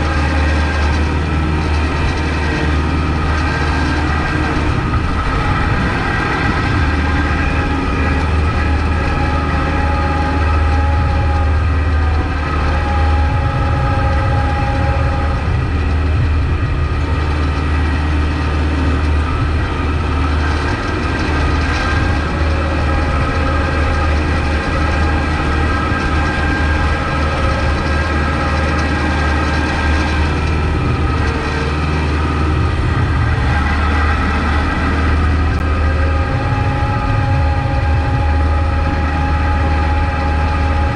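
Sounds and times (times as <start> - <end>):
tractor diesel engine droning: 0.0 - 40.9.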